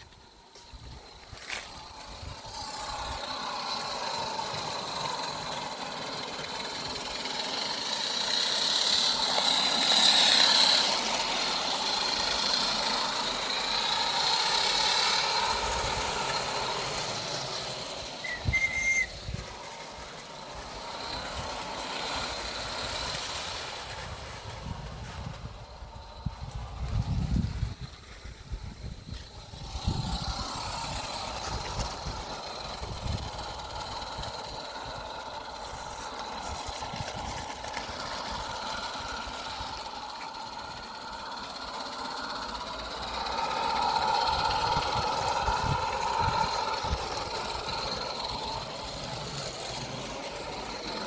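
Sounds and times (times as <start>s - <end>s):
steam locomotive hissing: 0.0s - 51.0s.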